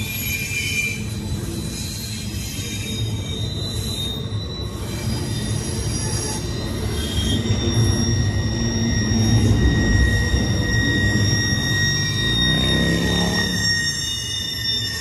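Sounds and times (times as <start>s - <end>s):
high-pitched wheel squeal: 0.0s - 15.0s.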